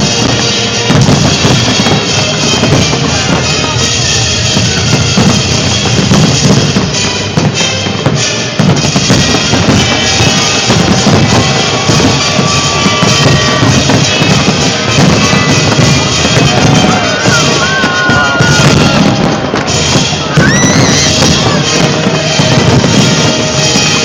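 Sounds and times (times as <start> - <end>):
fireworks booming: 0.0 - 24.0
music: 0.0 - 24.0.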